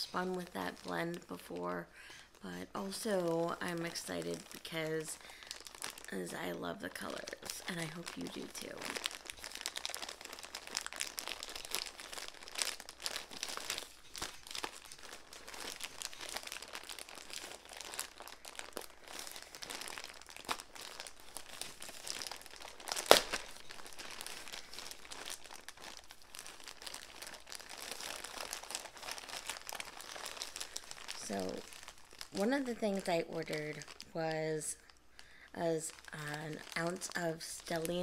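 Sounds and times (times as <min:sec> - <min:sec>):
plastic bag crinkling: 0:00.0 - 0:38.0
plastic bag tearing: 0:02.4 - 0:34.2.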